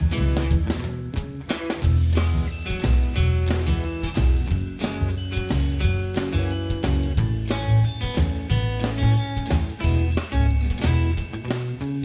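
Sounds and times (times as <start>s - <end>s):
background music with guitar and bass: 0.0s - 12.0s.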